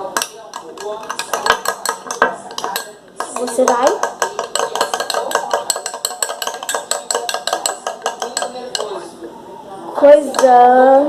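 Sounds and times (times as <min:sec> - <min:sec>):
spoon clinking against bowl: 0:00.0 - 0:09.2, 0:10.2 - 0:10.6.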